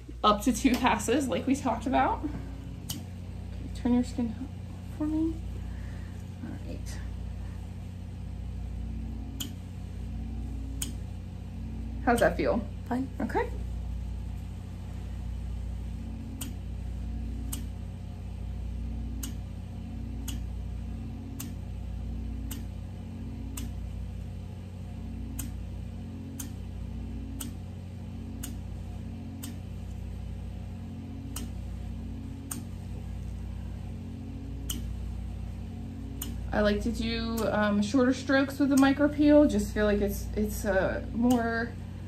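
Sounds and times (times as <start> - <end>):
suction pump humming: 0.0 - 42.0.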